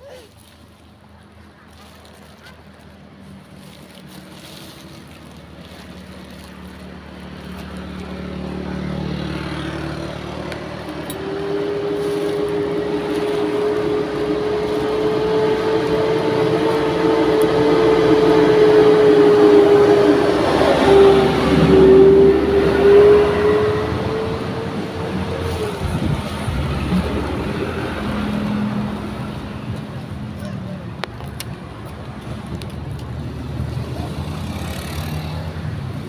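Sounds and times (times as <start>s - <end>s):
truck engine approaching: 0.0s - 36.0s.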